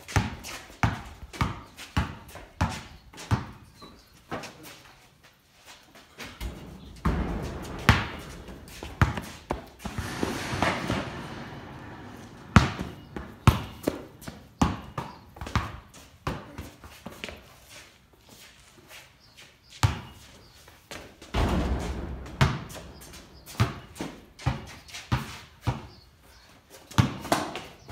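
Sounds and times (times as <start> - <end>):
basketball bouncing in a metal shed: 0.0 - 5.0, 5.8 - 17.5, 19.7 - 27.9.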